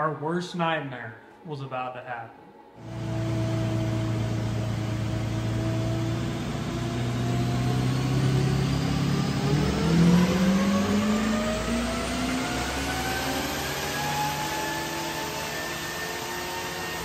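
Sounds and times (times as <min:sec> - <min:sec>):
engine revving under load: 0:02.8 - 0:17.0.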